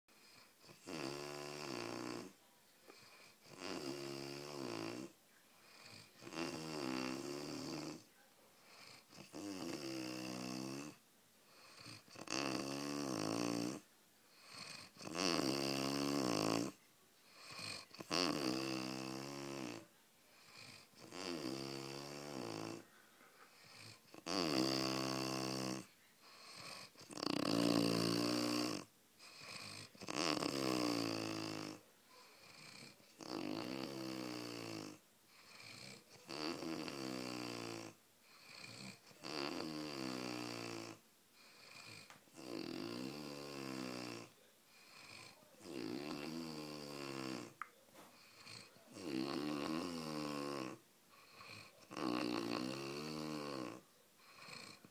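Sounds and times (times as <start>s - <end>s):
wheezy pitched snoring: 0.1s - 22.9s, 23.5s - 54.9s.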